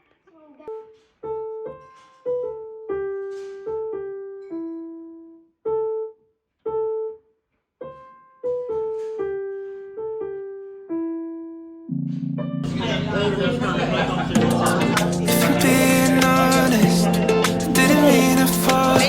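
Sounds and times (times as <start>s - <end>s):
solo piano melody: 1.2s - 19.0s.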